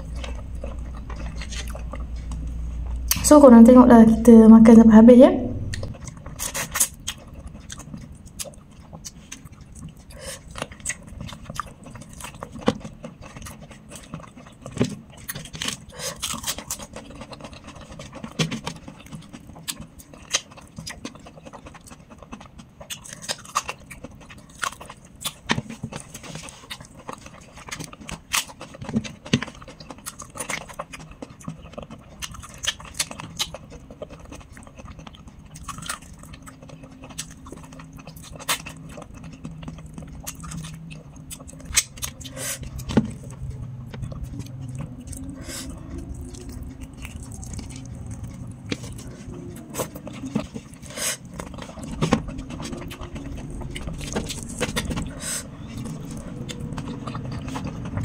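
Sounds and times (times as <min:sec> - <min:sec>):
person chewing food: 0:00.0 - 0:03.3, 0:05.6 - 0:58.0.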